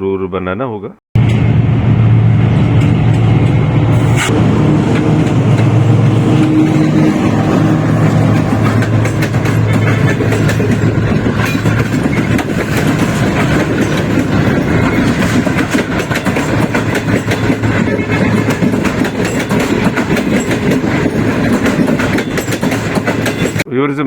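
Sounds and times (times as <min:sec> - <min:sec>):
train low hum: 0:01.2 - 0:23.7
train wheels clattering: 0:02.4 - 0:23.6.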